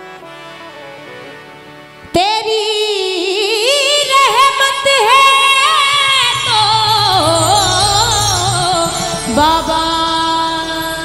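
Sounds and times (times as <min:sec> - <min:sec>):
harmonium: 0:00.0 - 0:11.0
woman singing devotional song: 0:02.1 - 0:11.0.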